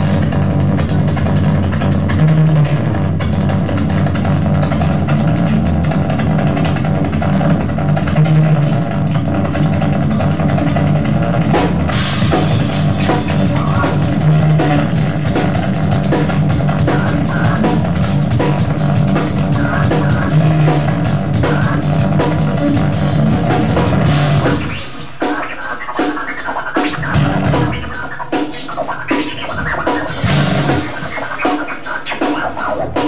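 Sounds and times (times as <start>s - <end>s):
drum kit beat: 0.0s - 33.0s
electric guitar: 0.0s - 33.0s.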